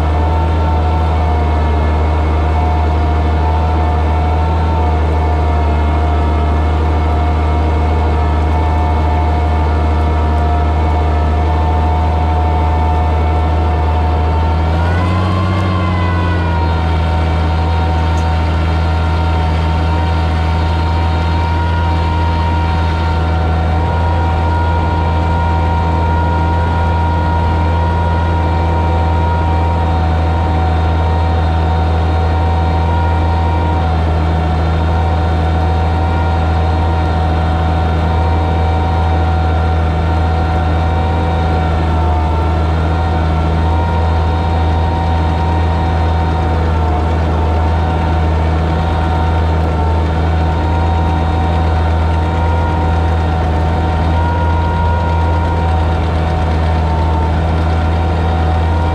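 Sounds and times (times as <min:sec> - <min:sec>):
tractor engine running under load: 0:00.0 - 0:58.9.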